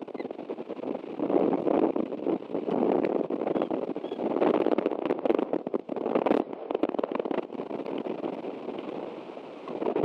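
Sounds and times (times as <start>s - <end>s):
rain tapping on microphone: 0.0s - 10.0s.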